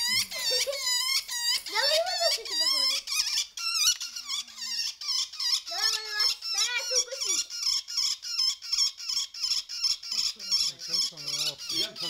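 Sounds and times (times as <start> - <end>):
woodpecker shrill squeaks: 0.0 - 12.0.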